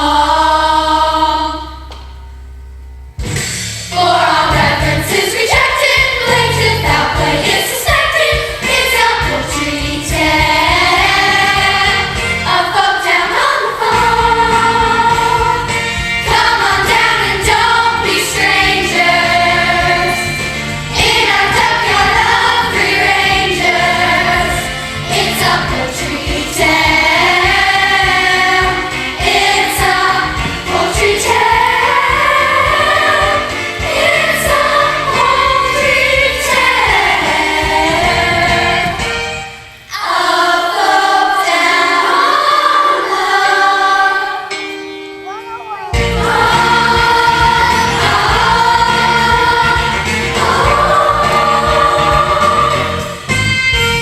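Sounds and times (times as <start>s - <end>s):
young people singing in chorus: 0.0s - 2.0s, 3.9s - 44.7s, 46.1s - 53.3s
instrumental accompaniment: 0.0s - 54.0s.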